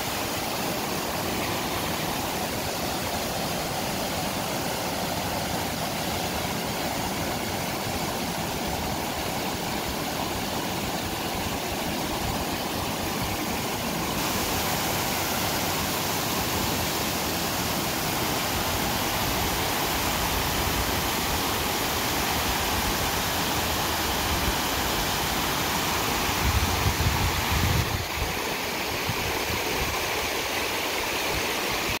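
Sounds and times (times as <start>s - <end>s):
water rushing over rocks: 0.0s - 32.0s.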